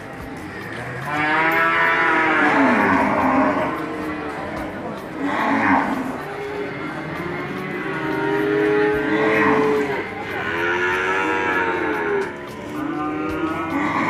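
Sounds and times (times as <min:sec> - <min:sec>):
cattle mooing: 0:01.0 - 0:03.8, 0:05.2 - 0:14.0.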